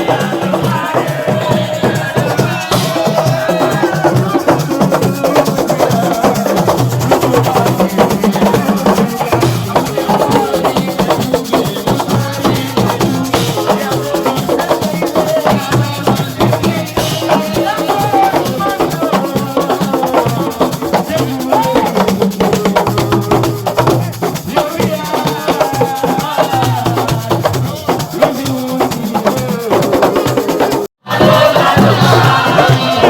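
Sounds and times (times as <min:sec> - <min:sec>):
drums in fast dense rhythm: 0:00.0 - 0:33.0
voices singing or chanting: 0:00.0 - 0:33.0.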